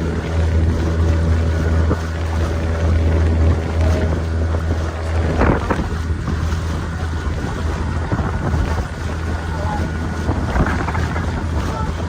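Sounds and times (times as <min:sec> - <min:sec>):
motorboat engine humming: 0:00.0 - 0:12.0
wind buffeting microphone: 0:00.0 - 0:12.0.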